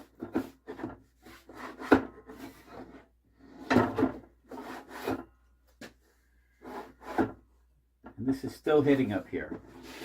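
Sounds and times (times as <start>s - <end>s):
wood scraping on wood: 0.0s - 5.9s, 6.6s - 7.4s, 8.2s - 10.0s.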